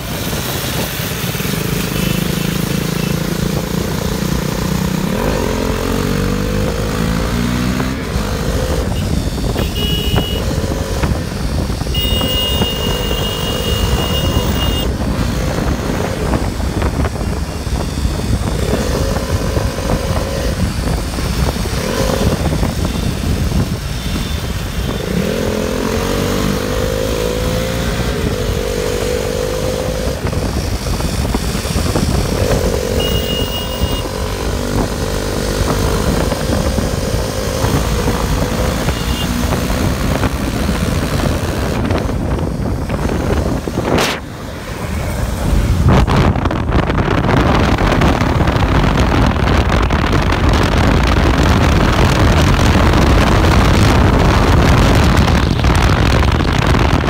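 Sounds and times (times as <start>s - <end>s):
wind rush on microphone: 0.0s - 2.0s, 2.6s - 57.0s
motorcycle engine running: 0.0s - 27.3s, 28.0s - 57.0s.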